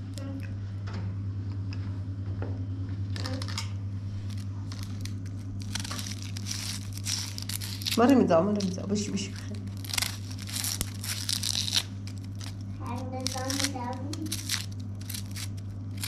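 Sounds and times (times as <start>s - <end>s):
steady low hum: 0.0s - 16.0s
crinkling handling noise: 3.0s - 16.0s.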